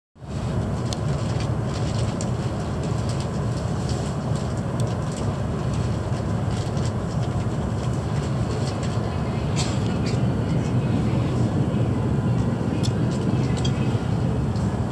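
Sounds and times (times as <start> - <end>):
train low rumble: 0.2 - 14.9.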